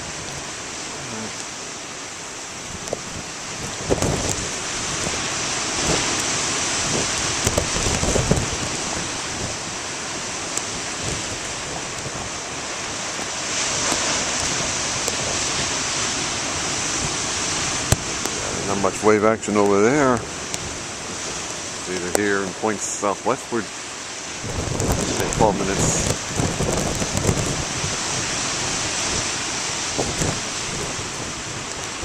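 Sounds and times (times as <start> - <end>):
ocean surf breaking: 0.0 - 32.0
rain: 0.0 - 32.0
wind buffeting microphone: 2.2 - 23.6, 24.2 - 32.0.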